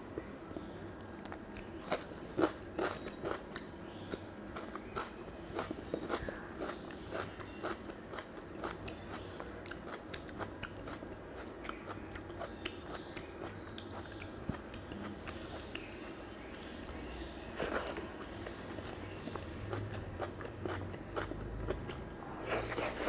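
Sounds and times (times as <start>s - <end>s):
person chewing with wet smacks: 1.2s - 16.2s, 17.6s - 23.0s.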